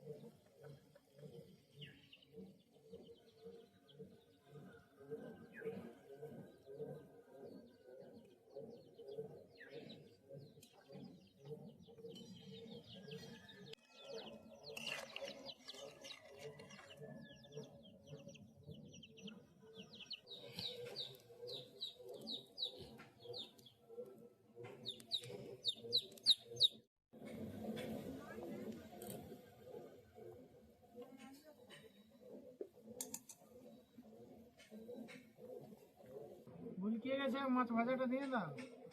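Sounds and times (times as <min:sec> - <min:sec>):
small birds chirping: 0:00.0 - 0:26.9, 0:28.2 - 0:38.9.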